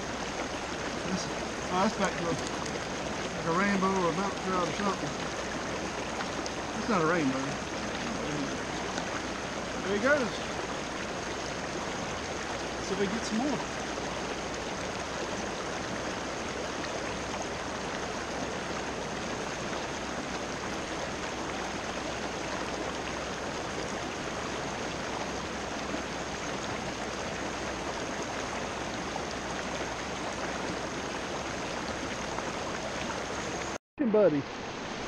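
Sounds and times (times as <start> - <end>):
river water rushing over rocks: 0.0 - 33.8, 34.4 - 35.0.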